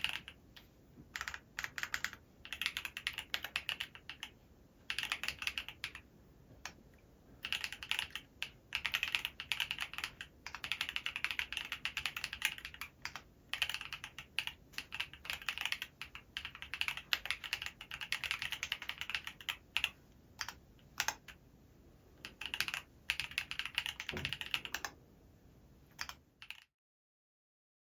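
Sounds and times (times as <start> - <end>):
mechanical keyboard typing: 0.0 - 6.8, 7.4 - 21.4, 22.2 - 25.0, 25.9 - 26.7.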